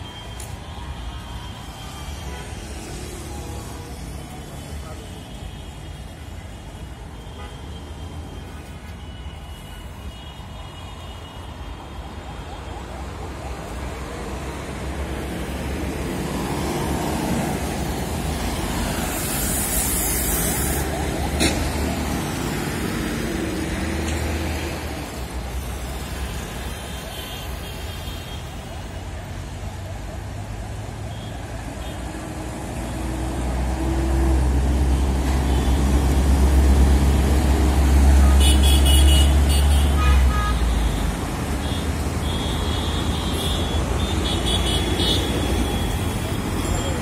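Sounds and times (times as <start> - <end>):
tyres on road: 0.0 - 47.0
vehicle engines: 0.0 - 47.0.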